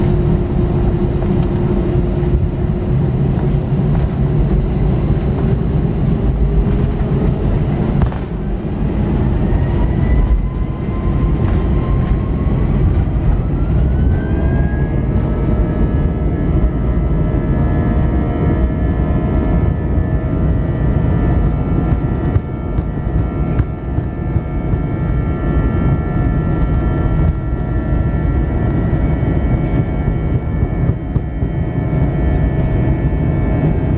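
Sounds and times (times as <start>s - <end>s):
jet engines spooling up: 0.0s - 17.4s, 19.4s - 33.9s
high-pitched engine whine: 0.0s - 33.9s
low rumble: 0.0s - 33.9s.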